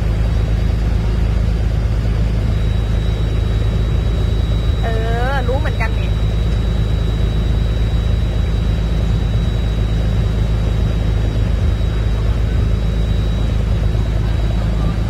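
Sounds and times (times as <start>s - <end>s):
boat engine rumbling: 0.0s - 15.0s
high whine: 0.0s - 15.0s.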